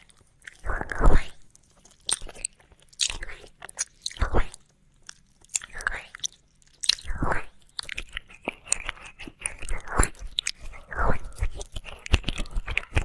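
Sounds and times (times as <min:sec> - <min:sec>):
wet mouth clicks and licking: 0:00.0 - 0:13.0.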